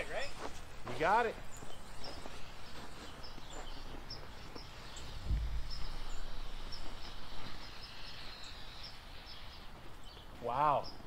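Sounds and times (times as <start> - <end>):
road flare hissing: 0.0 - 11.0.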